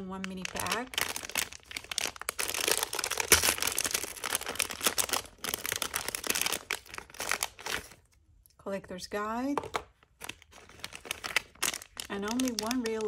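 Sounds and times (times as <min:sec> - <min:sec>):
plastic bag crinkling and tearing: 0:00.0 - 0:08.1, 0:10.0 - 0:13.0.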